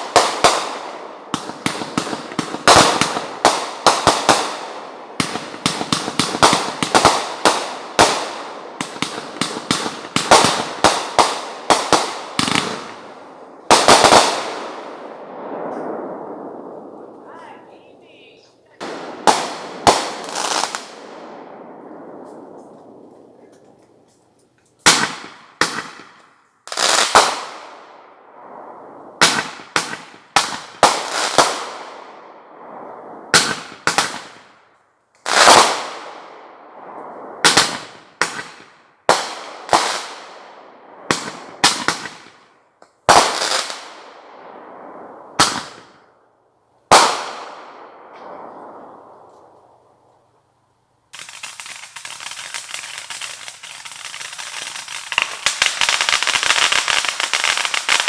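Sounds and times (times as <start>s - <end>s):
fireworks bursting with sharp bangs: 0.0s - 50.5s, 51.1s - 58.0s.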